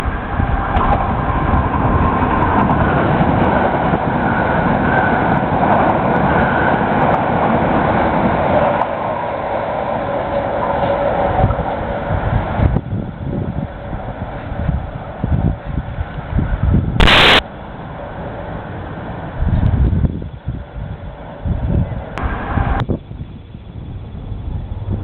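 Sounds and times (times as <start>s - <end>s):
faint train whine: 0.0s - 25.0s
train rumbling by: 0.0s - 25.0s.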